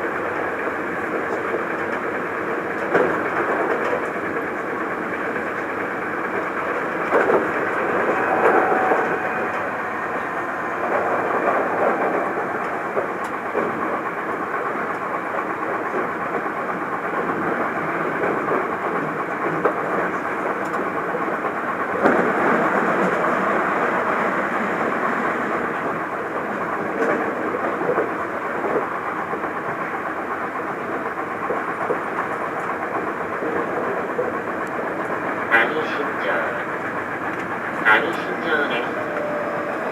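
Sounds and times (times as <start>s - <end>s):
train wheels rumbling on rail: 0.0s - 39.9s
rail-joint clicks: 0.2s - 39.9s.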